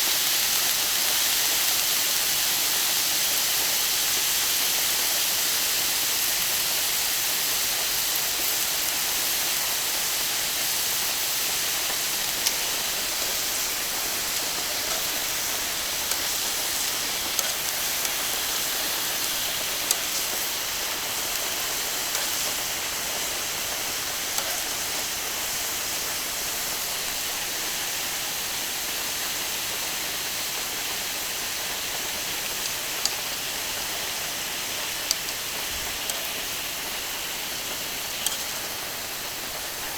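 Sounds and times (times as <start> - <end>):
beef sizzling on a griddle: 0.0 - 39.9.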